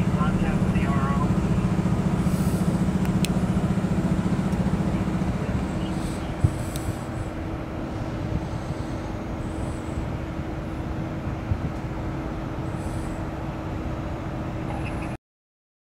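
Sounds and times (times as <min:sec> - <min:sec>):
car rumble from inside cabin: 0:00.0 - 0:15.2.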